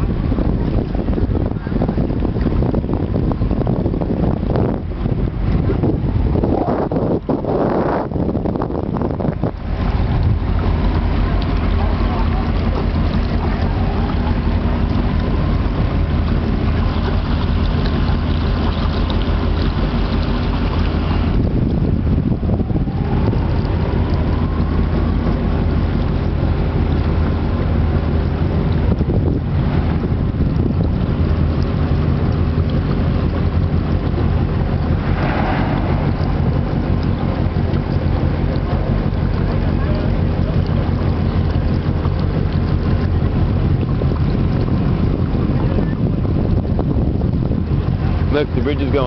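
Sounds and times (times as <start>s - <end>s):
boat engine humming: 0.0s - 49.0s
wind noise on microphone: 0.0s - 49.0s.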